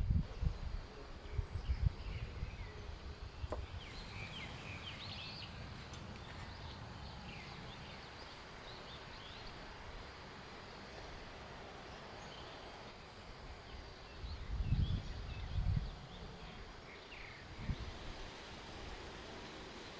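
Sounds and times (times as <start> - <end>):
outdoor background hiss: 0.0 - 19.9
birds chirping: 1.1 - 18.0.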